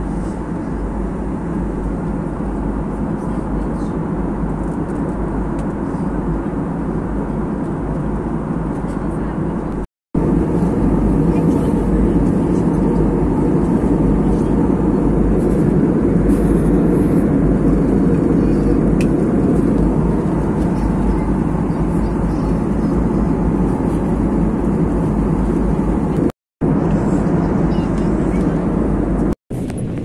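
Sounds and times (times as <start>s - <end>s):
jet airliner cabin noise: 0.0s - 30.0s.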